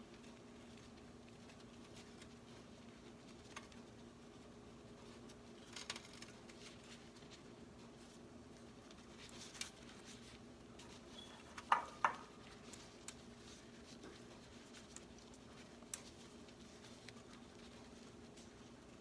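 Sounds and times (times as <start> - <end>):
faint steady hum: 0.0 - 19.0
gloved hands rubbing and rustling: 0.0 - 19.0.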